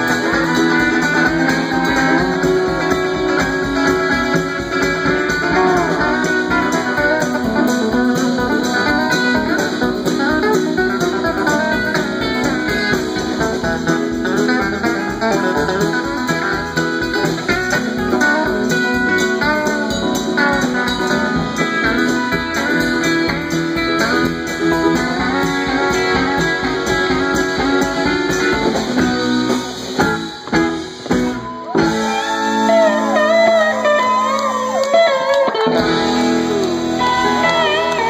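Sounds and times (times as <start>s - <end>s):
acoustic guitar: 0.0s - 38.0s
drums: 0.0s - 38.0s
electric guitar: 0.0s - 38.0s
pedal steel guitar: 0.0s - 38.0s.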